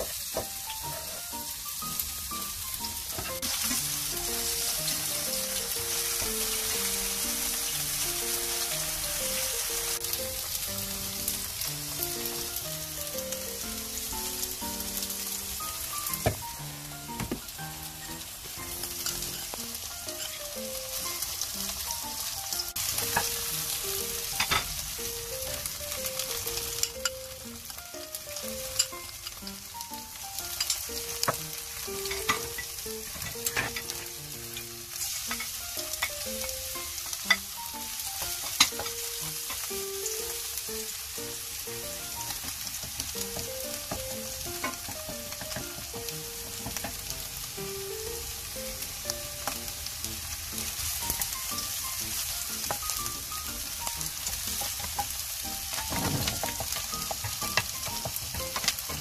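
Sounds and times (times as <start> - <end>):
gentle background melody: 0.0 - 59.0
oil sizzling in a frying pan: 0.0 - 59.0.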